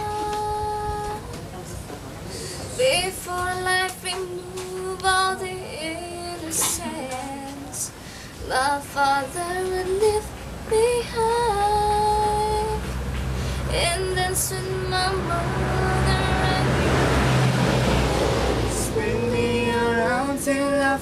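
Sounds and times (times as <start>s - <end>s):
woman singing: 0.0s - 1.4s, 2.6s - 12.9s, 13.6s - 17.4s, 18.7s - 21.0s.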